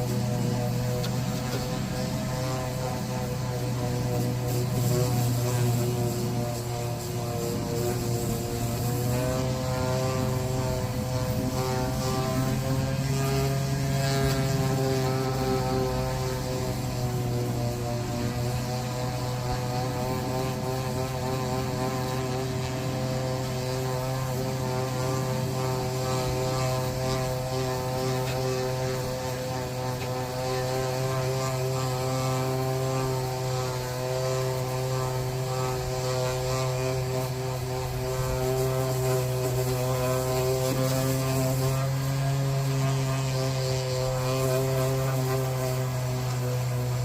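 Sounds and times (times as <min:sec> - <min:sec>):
motor humming steadily: 0:00.0 - 0:47.0.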